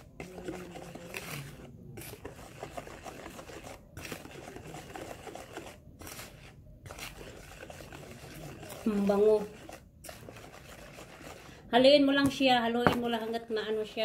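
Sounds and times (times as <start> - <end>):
wire whisk beating batter: 0.0 - 14.0.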